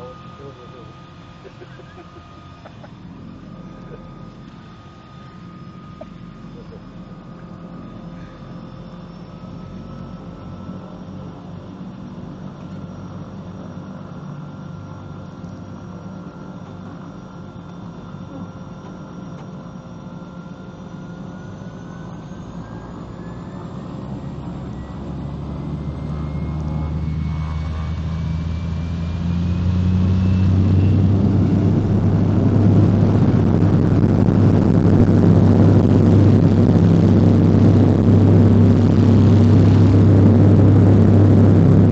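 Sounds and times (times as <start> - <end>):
heavy propeller drone: 0.0 - 41.9
turboprop engine with turbine whine: 0.0 - 41.9.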